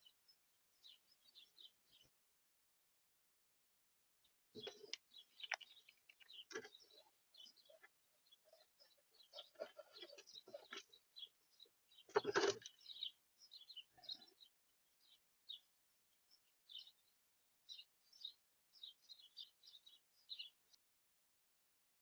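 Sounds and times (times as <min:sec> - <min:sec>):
songbirds chirping: 0:00.0 - 0:02.1, 0:04.3 - 0:20.8.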